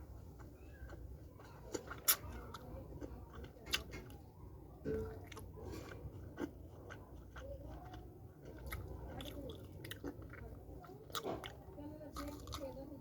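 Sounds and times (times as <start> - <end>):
person chewing clay crunching: 0.0 - 4.2, 4.8 - 13.0.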